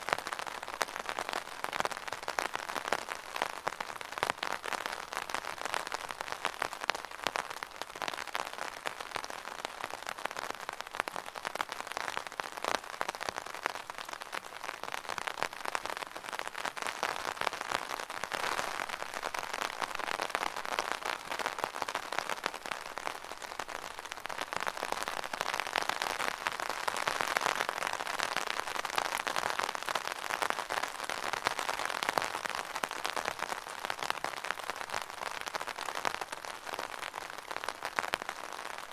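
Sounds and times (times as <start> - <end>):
rain pattering on umbrella: 0.0 - 38.9.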